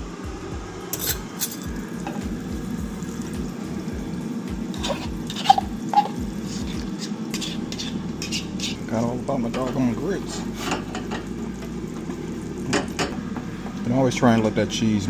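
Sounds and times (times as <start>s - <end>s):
running water in kitchen: 0.8s - 15.0s.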